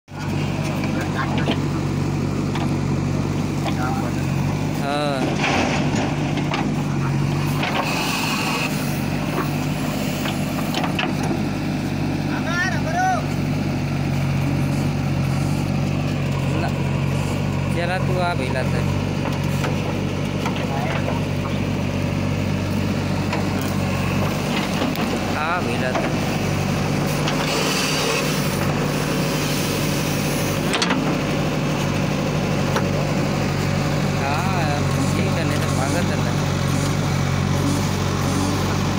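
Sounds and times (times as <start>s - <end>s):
diesel engine running under load: 0.1s - 38.9s.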